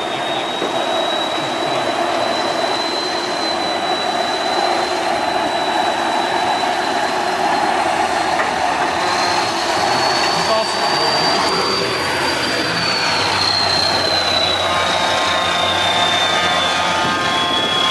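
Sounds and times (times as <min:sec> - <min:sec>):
diesel truck engine running: 0:00.0 - 0:17.9
thin high whine: 0:00.0 - 0:17.9.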